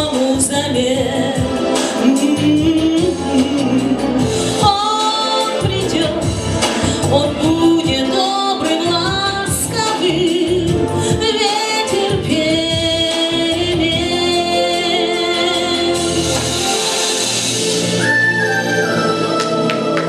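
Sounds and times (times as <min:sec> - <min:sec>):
backing music: 0:00.0 - 0:20.0.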